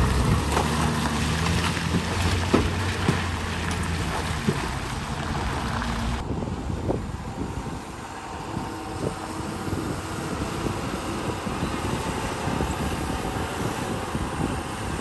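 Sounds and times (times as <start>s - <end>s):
heavy truck engine running: 0.0s - 15.0s
wind noise on microphone: 0.0s - 15.0s.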